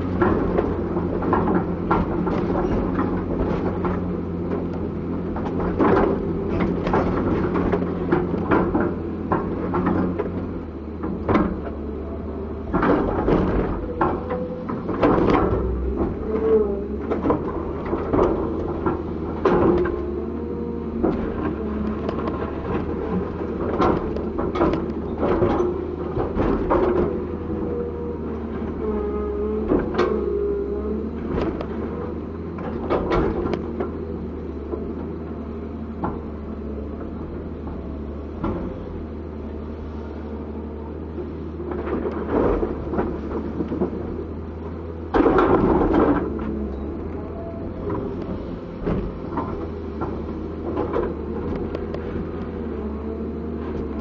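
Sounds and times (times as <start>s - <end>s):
excavator diesel engine drone: 0.0s - 54.0s.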